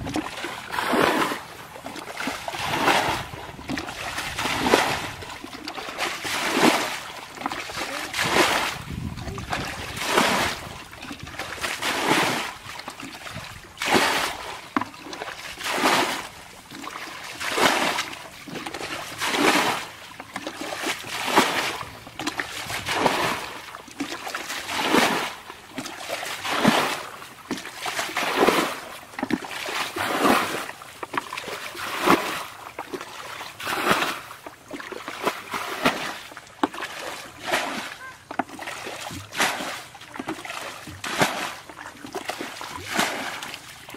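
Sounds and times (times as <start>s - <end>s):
water scooped and splashed: 0.0s - 43.9s.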